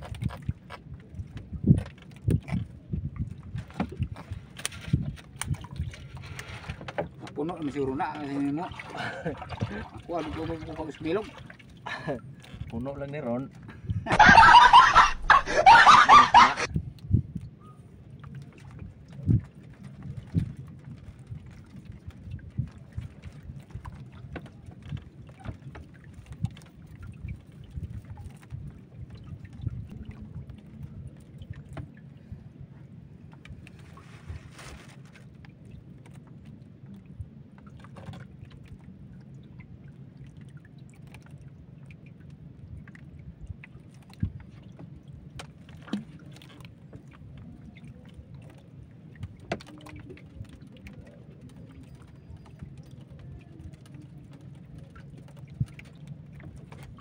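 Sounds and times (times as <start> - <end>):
boat engine rumble: 0.0 - 57.0.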